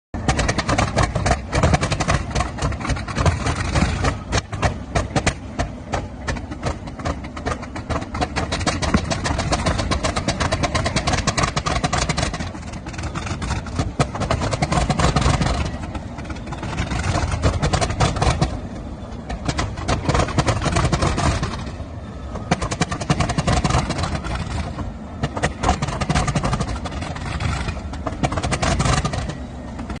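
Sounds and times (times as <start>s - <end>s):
diesel engines starting and rumbling: 0.1s - 30.0s.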